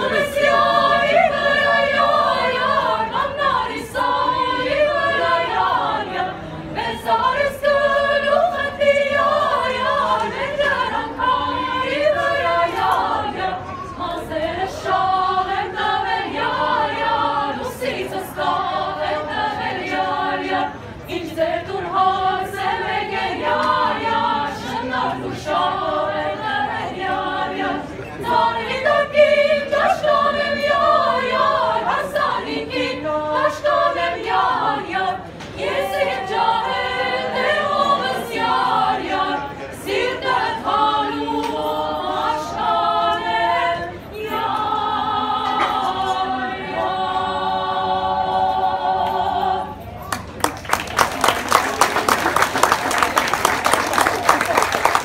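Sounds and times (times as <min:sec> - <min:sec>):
choir singing a cappella: 0:00.0 - 0:50.0.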